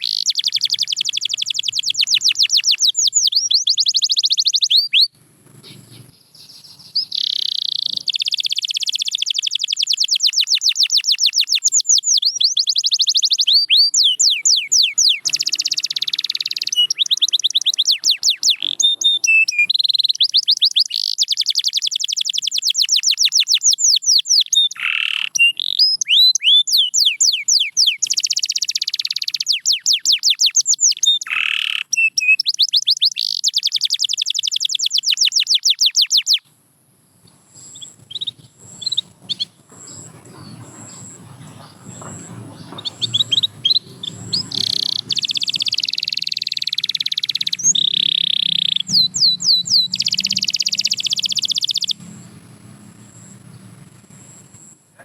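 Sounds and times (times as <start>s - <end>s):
canary singing trills: 0.0s - 36.5s, 37.2s - 55.0s.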